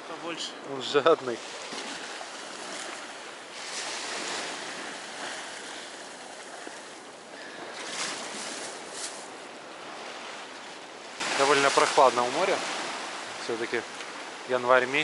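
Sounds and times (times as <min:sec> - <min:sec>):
small waves washing on shore: 0:00.0 - 0:15.0.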